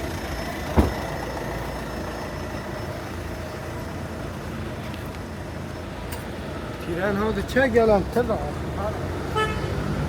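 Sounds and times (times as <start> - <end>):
city traffic rumble: 0.0 - 10.0.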